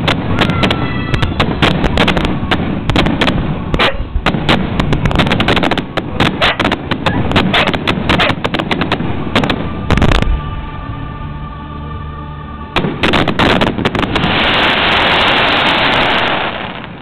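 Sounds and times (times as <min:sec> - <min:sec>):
fireworks bangs: 0:00.0 - 0:10.4, 0:12.8 - 0:17.0
dense steady hiss: 0:00.0 - 0:17.0.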